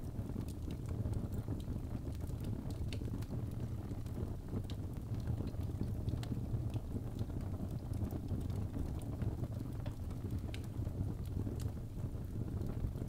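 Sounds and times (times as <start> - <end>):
logs burning in a fireplace: 0.0 - 13.0.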